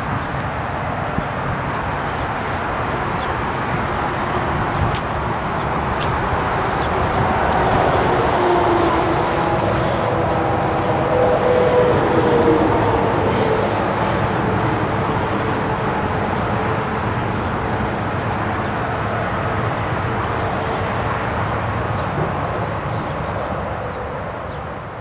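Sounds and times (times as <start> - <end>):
heavy highway traffic: 0.0 - 25.0.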